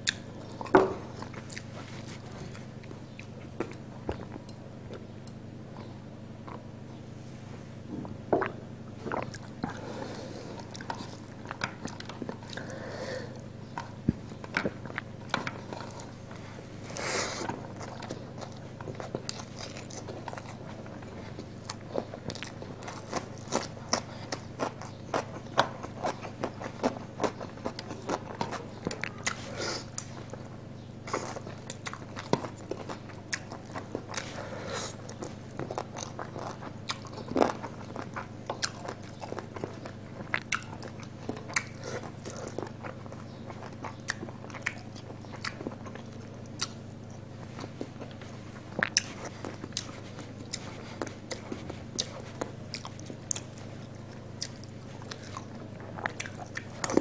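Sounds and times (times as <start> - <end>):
person chewing food: 0.0 - 7.0, 7.9 - 57.0
steady low hum: 0.0 - 57.0.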